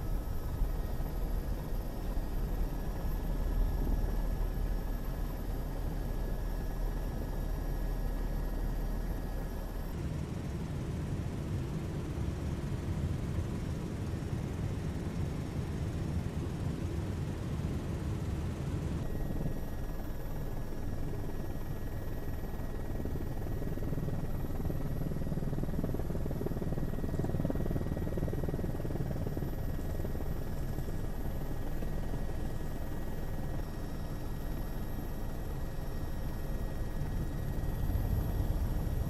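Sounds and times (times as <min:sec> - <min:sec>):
helicopter flying: 0:00.0 - 0:39.0.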